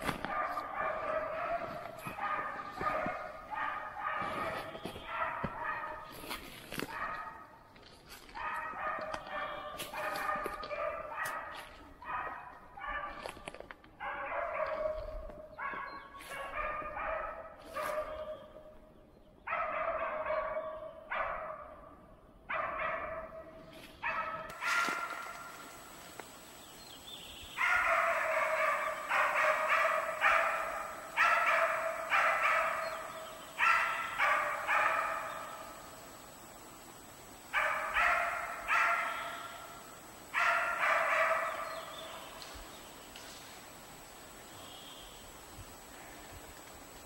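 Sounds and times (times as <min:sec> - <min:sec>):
dogs barking: 0:00.0 - 0:18.8, 0:19.4 - 0:26.0, 0:27.6 - 0:36.0, 0:37.5 - 0:42.6.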